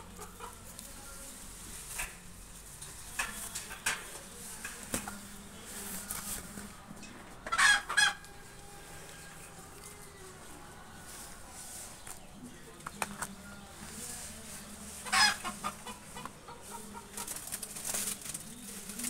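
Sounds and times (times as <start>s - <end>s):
chicken clucking: 0.0s - 19.0s.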